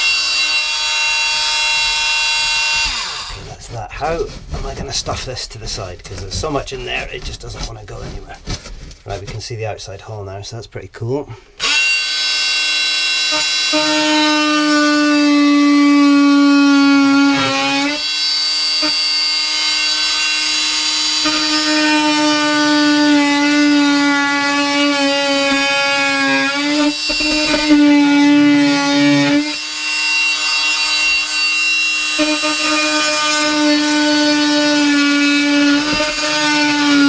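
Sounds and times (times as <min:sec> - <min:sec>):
oscillating multi-tool cutting: 0:00.0 - 0:04.9, 0:11.6 - 0:37.0.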